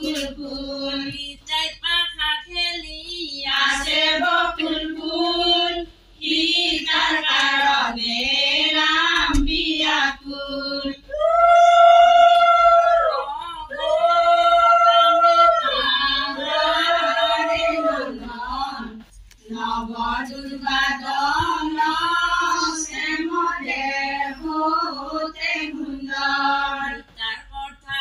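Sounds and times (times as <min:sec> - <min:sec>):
women singing unaccompanied: 0:00.0 - 0:28.0.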